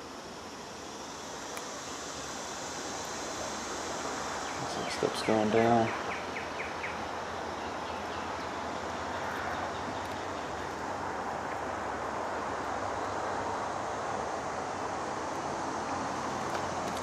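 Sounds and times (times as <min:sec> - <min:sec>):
distant vehicles rumbling: 0:00.0 - 0:17.0.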